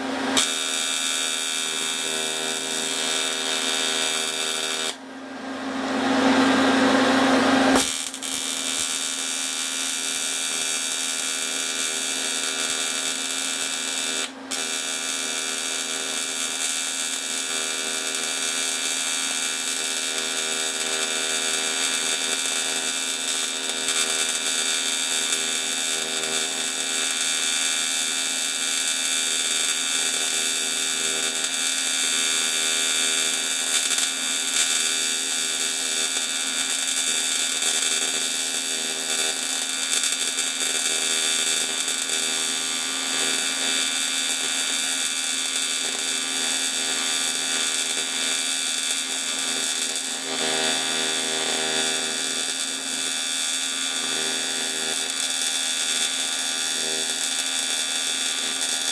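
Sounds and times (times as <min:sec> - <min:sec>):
welding arc buzzing: 0:00.0 - 0:05.0, 0:06.3 - 0:58.9.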